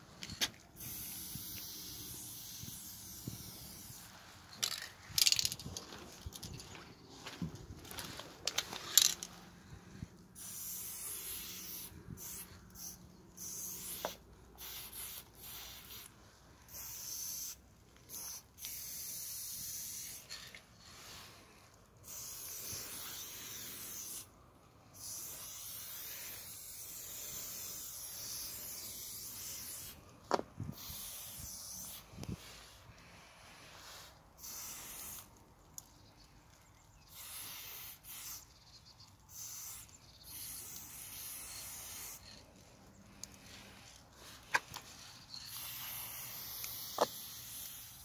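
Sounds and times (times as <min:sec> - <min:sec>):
spray paint can hissing: 0:00.3 - 0:09.4, 0:10.4 - 0:24.3, 0:25.0 - 0:35.4, 0:37.0 - 0:42.5, 0:43.2 - 0:48.0.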